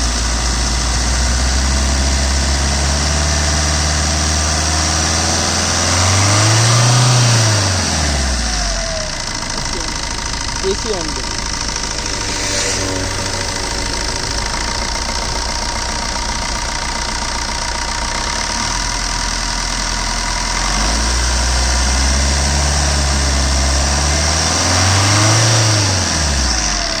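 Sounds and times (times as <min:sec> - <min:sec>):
diesel engine idling and revving: 0:00.0 - 0:27.0.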